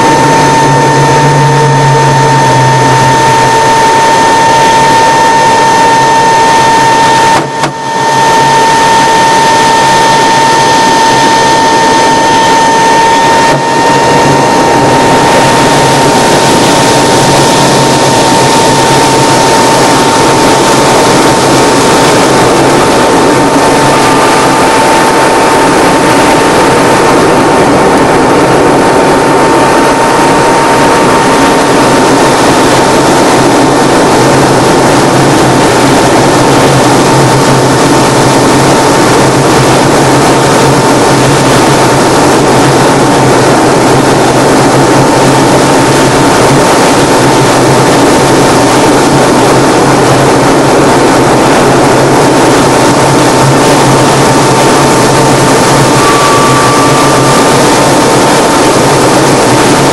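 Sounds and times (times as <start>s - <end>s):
high steady whine: 0.0s - 59.9s
plane engine drone: 0.0s - 59.9s.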